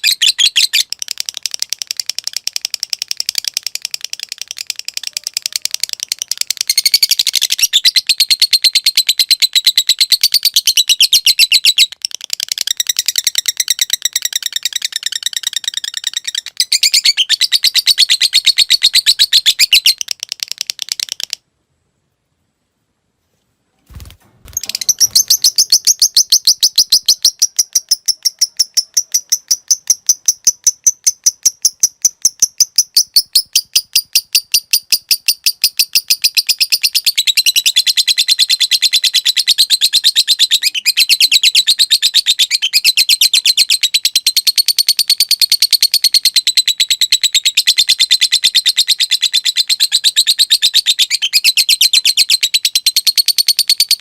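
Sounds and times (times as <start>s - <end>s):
lovebird chattering: 0.0s - 21.4s, 24.5s - 54.0s.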